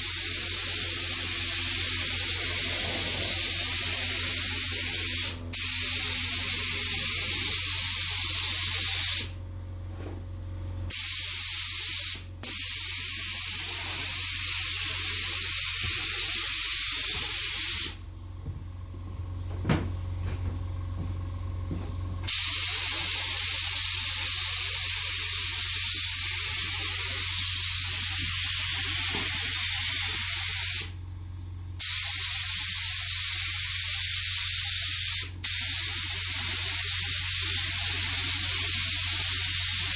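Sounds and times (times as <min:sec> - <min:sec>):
paint sprayer hissing: 0:00.0 - 0:09.4, 0:10.9 - 0:18.1, 0:22.2 - 0:31.0, 0:31.8 - 0:39.9.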